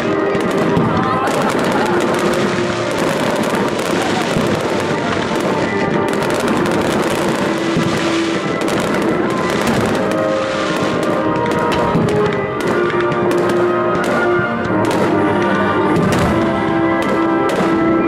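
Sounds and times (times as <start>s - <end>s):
fireworks bursting and crackling: 0.0s - 18.0s
music with held tones: 0.0s - 18.0s.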